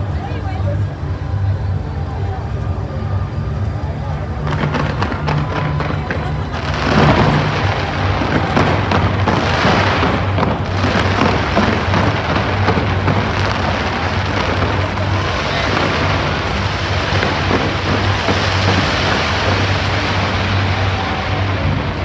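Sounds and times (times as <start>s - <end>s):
fireworks bursts and crackles: 0.0s - 22.0s.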